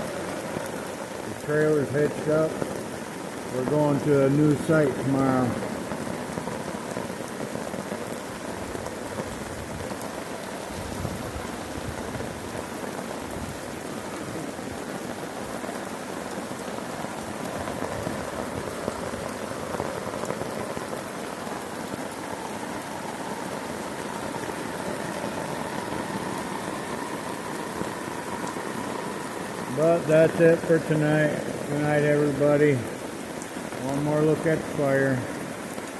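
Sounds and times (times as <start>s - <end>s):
heavy rain on a tarp: 0.0s - 35.9s.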